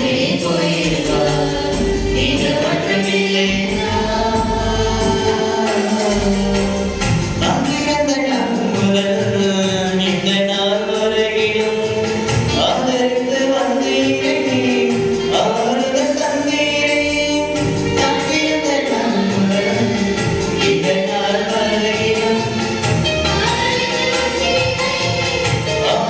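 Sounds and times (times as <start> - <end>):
voices singing a hymn: 0.0 - 7.6, 11.8 - 26.0
instrumental accompaniment: 0.0 - 26.0
light percussion beat: 0.0 - 26.0.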